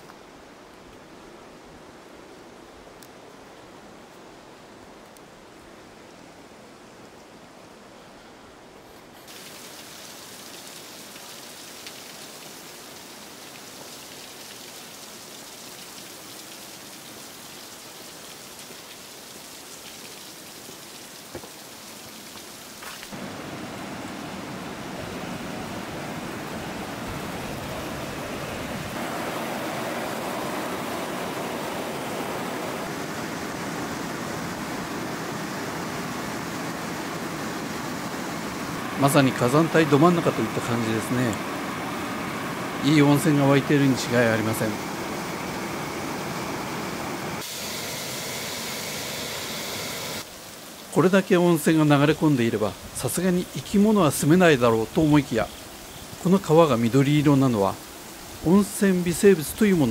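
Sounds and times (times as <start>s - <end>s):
fast water rushing: 9.0s - 59.9s.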